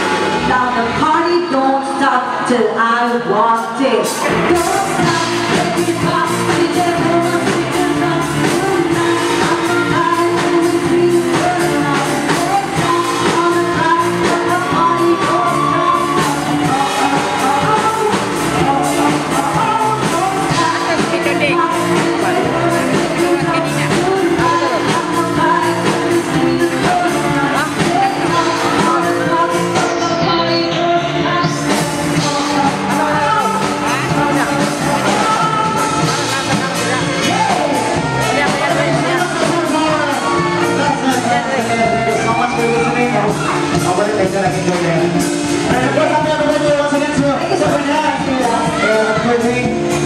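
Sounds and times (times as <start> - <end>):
woman singing: 0.0 - 44.0, 45.5 - 50.0
live pop band: 0.0 - 50.0.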